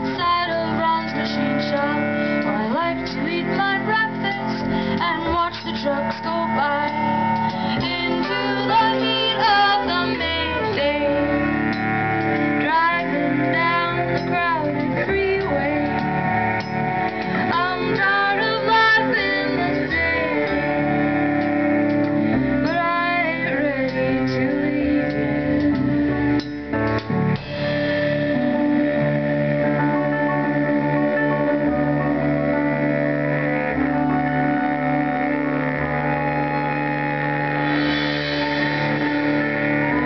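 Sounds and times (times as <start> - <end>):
bowed cello: 0.0 - 40.0
drum kit: 0.0 - 40.0
flute melody with trills: 0.0 - 40.0
keyboard music: 0.0 - 40.0.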